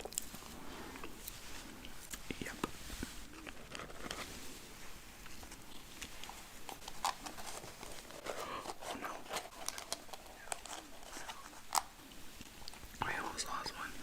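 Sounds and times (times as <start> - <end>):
chewing food: 0.0 - 4.2, 4.8 - 13.0.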